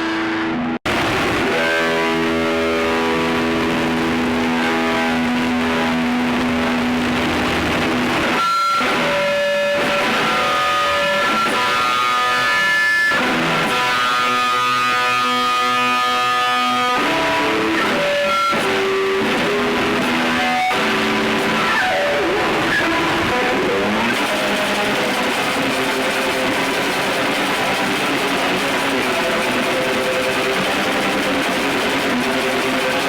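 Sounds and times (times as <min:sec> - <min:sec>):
distorted noise wall: 0:00.0 - 0:33.0.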